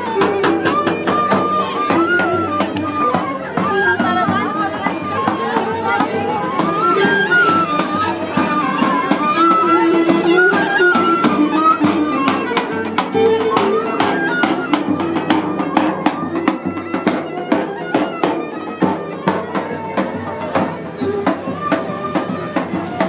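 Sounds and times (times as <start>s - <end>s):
large drum strokes: 0.0s - 23.0s
plucked tamburas: 0.0s - 23.0s
reedy folk melody: 0.0s - 23.0s.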